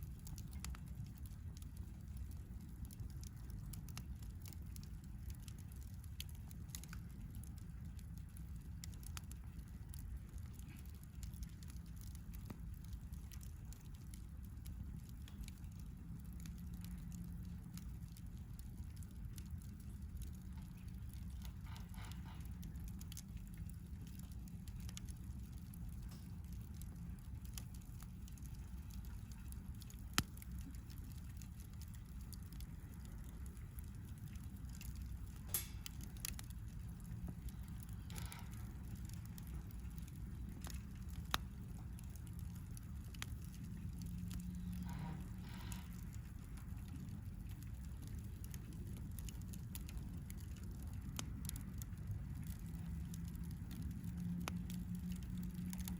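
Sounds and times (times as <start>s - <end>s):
campfire crackling: 0.0s - 55.9s
low steady rumble: 0.0s - 55.9s
sharp fire pops: 0.0s - 55.9s.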